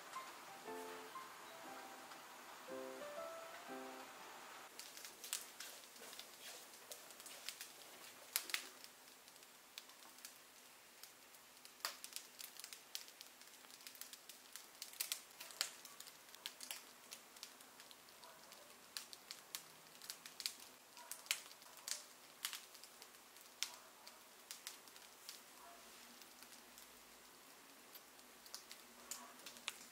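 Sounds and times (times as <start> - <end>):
bread crust crackling: 4.7 - 29.9.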